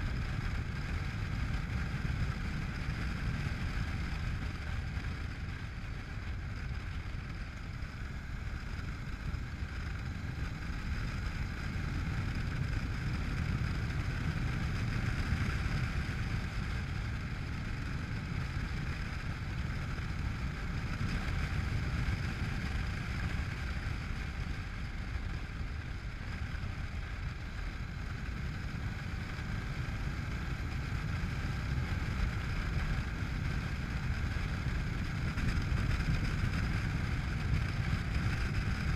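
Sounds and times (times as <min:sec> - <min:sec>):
motorcycle engine running: 0:00.0 - 0:38.9
wind rushing over camera: 0:00.0 - 0:38.9.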